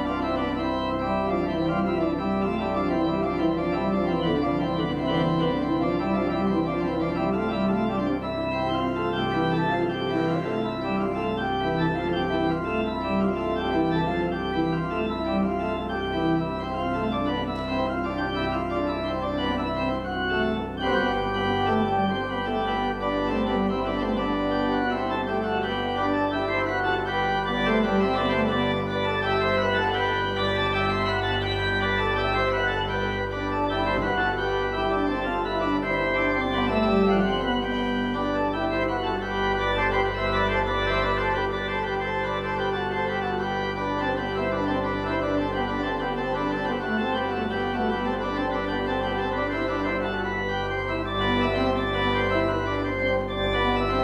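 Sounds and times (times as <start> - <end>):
pipe organ playing: 0.0 - 54.0.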